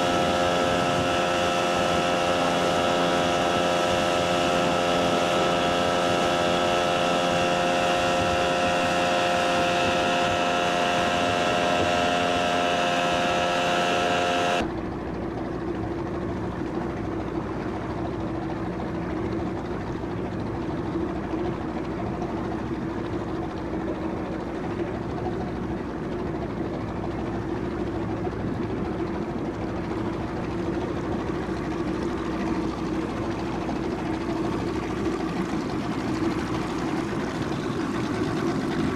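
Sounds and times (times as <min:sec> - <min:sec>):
boat engine droning: 0:00.0 - 0:38.9
low hum: 0:00.0 - 0:38.9.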